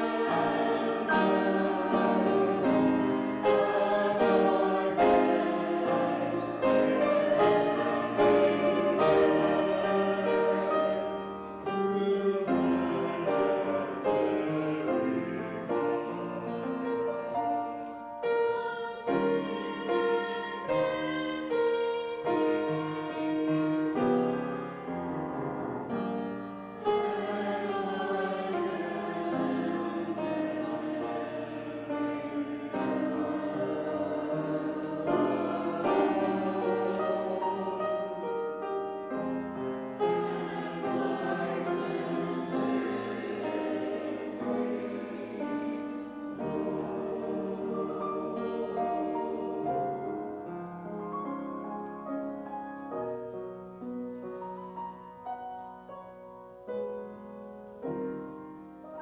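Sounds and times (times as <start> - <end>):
church choir singing: 0.0 - 59.0
piano accompaniment: 0.0 - 59.0.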